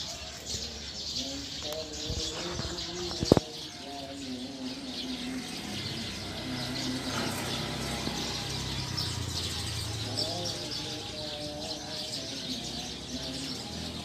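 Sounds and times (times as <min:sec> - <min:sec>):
flock of sparrows chirping: 0:00.0 - 0:14.0.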